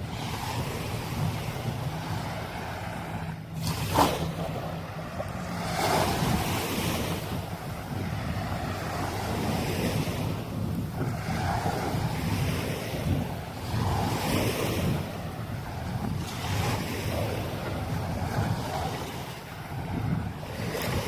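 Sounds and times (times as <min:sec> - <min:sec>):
sea waves breaking on sand: 0:00.0 - 0:21.0
wind buffeting microphone: 0:00.0 - 0:21.0.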